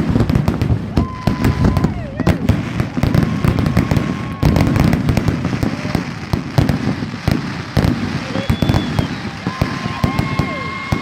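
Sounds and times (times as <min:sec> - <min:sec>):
fireworks bangs and crackles: 0:00.0 - 0:11.0
fireworks whistling: 0:00.0 - 0:11.0.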